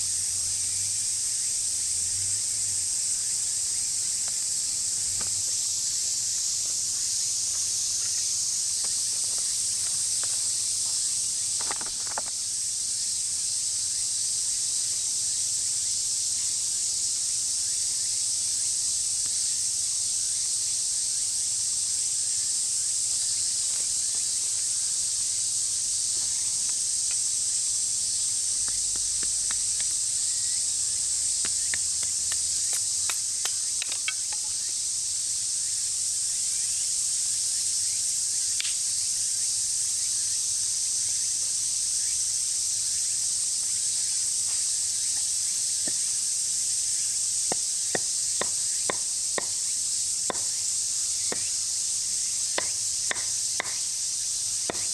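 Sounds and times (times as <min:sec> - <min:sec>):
insects shrill drone: 0:00.0 - 0:54.9.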